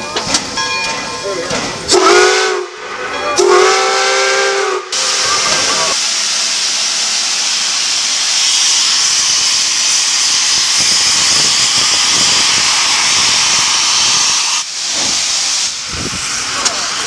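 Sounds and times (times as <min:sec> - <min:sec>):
steam locomotive venting steam: 0:01.5 - 0:17.0.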